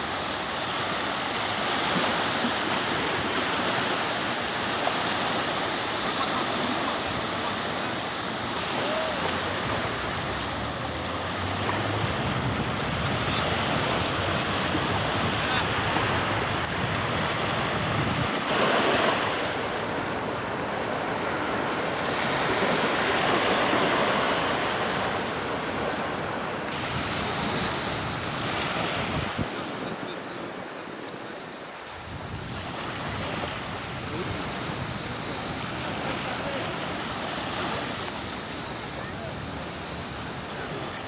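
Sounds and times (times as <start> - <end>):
sea waves washing: 0.0 - 41.0
wind buffeting microphone: 0.0 - 41.0.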